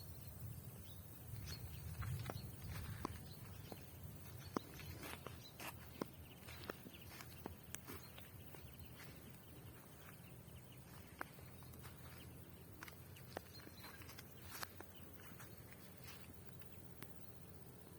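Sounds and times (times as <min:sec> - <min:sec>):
low steady rumble: 0:00.0 - 0:17.9.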